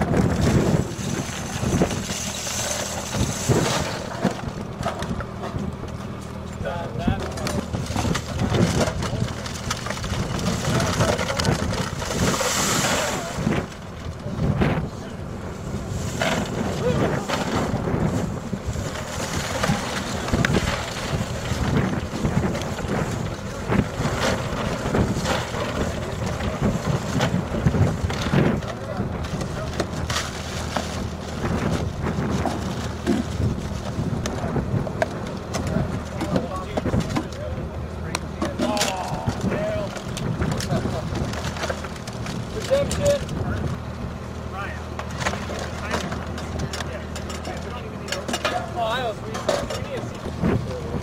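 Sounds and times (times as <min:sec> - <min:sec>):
wind buffeting microphone: 0:00.0 - 0:02.4, 0:03.0 - 0:38.4, 0:39.0 - 0:44.4
low engine hum: 0:00.0 - 0:51.0.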